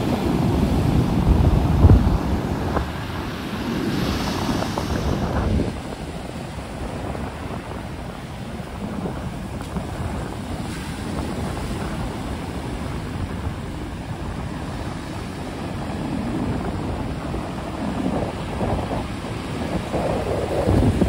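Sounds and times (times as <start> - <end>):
surf washing up pebble beach: 0.0 - 21.0
wind buffeting microphone: 0.0 - 21.0.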